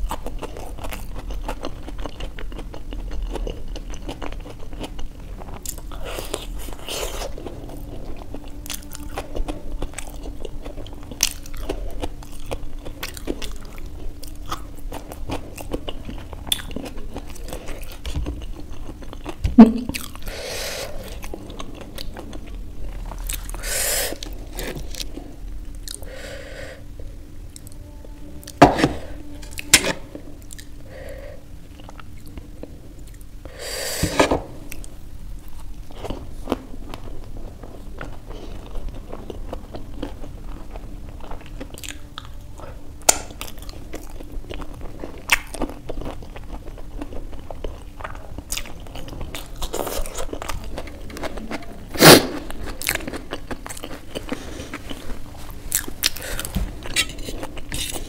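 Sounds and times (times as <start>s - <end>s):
person chewing and crunching: 0.0s - 26.4s, 27.5s - 58.0s.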